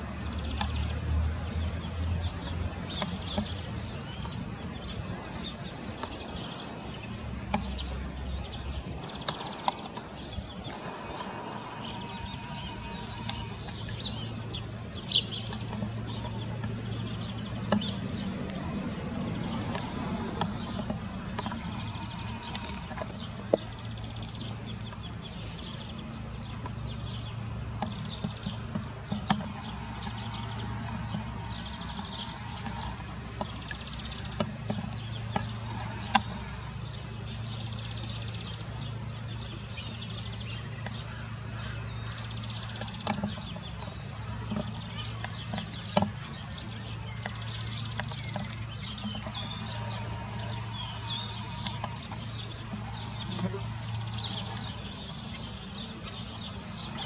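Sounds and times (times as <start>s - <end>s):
birds chirping and whistling: 0.0s - 57.0s
steady low hum: 0.0s - 57.0s.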